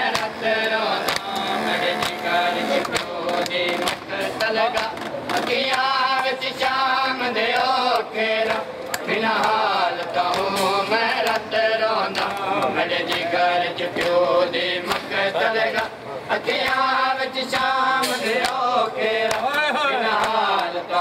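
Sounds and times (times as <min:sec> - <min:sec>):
mourners chanting together: 0:00.0 - 0:21.0.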